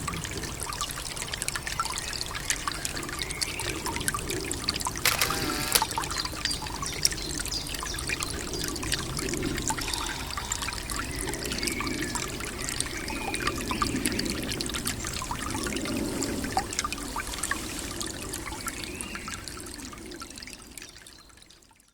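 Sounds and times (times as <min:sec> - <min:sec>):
brook trickling: 0:00.0 - 0:05.0, 0:05.8 - 0:21.9.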